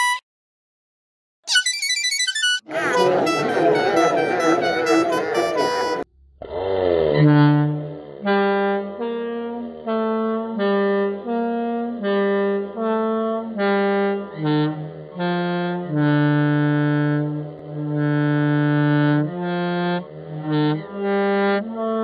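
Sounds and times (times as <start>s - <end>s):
musical bus horn notes: 2.5s - 6.1s, 7.2s - 22.0s.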